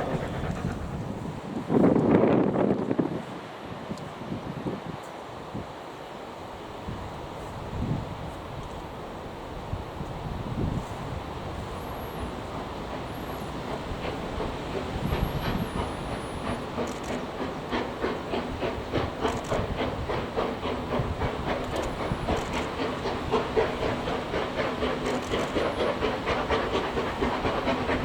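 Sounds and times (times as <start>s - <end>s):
steam train running: 0.0s - 28.0s.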